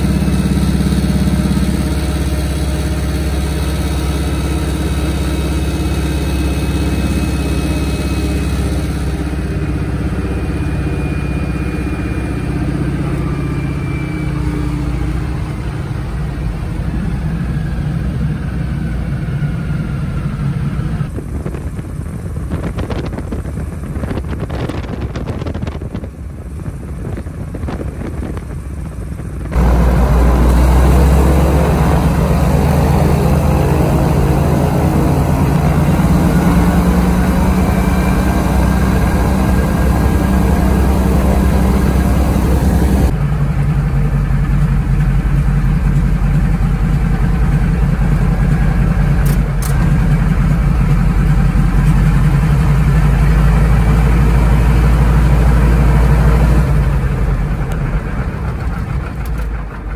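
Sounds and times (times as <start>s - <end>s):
aircraft radial engine running: 0.0s - 59.9s.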